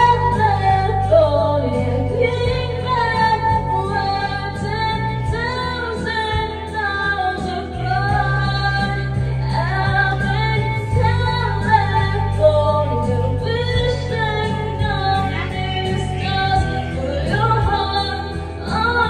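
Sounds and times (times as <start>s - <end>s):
backing track with bass line: 0.0s - 19.0s
woman singing karaoke: 0.0s - 19.0s.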